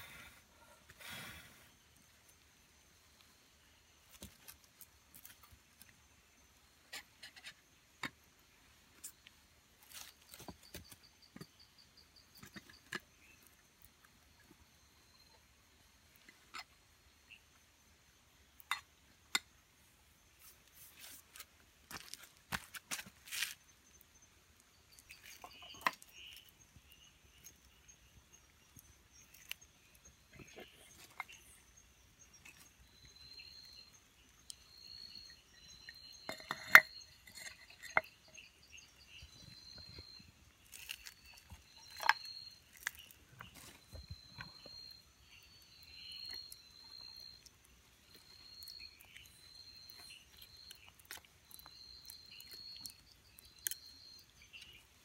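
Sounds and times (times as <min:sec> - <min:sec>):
insect chirping: 0:00.0 - 0:55.0
insects droning: 0:00.0 - 0:55.0.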